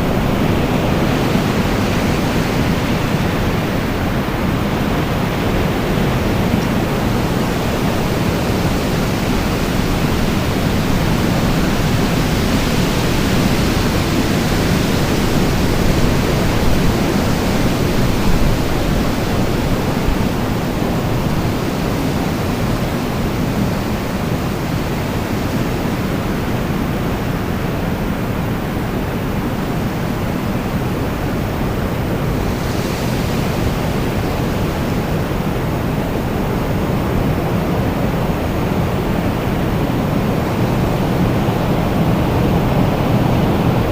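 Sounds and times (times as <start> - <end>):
strong wind blowing: 0.0 - 43.9.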